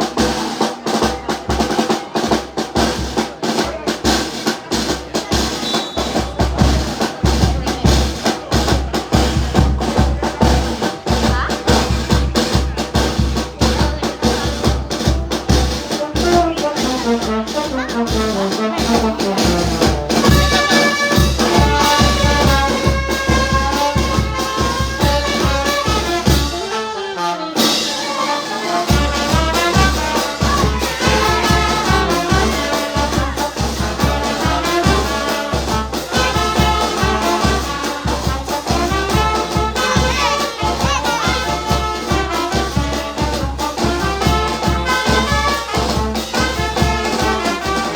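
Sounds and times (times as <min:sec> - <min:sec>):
brass band music: 0:00.0 - 0:47.9
bass drum beat: 0:05.6 - 0:26.6, 0:28.9 - 0:47.9.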